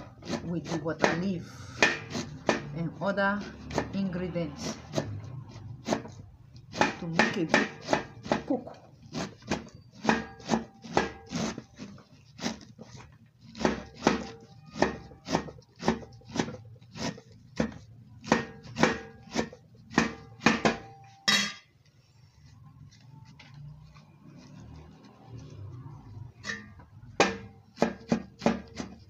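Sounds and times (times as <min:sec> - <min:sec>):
knife chopping on metal tray: 0:00.0 - 0:21.7, 0:26.4 - 0:29.0
knife scraping metal tray: 0:00.0 - 0:21.8, 0:24.3 - 0:29.0.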